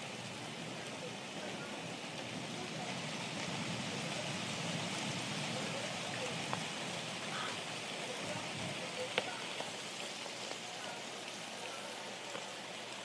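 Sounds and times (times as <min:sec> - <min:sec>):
heavy rain hiss: 0:00.0 - 0:13.0.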